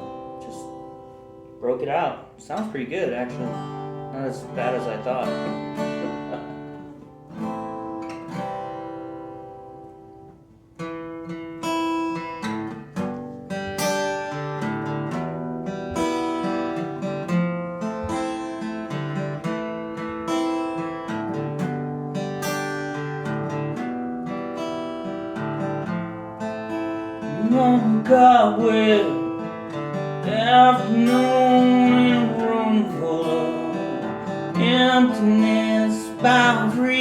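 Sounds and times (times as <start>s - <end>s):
acoustic guitar chords: 0.0s - 37.0s.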